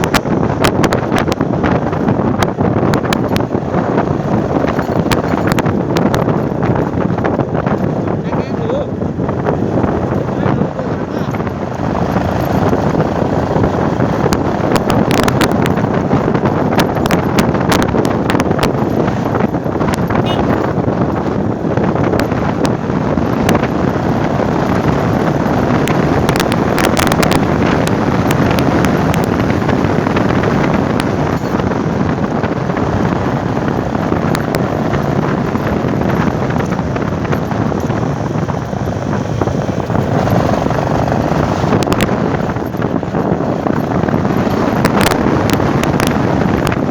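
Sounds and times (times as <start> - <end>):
motorcycle engine and road noise: 0.0 - 46.9
wind rushing over microphone: 0.0 - 46.9.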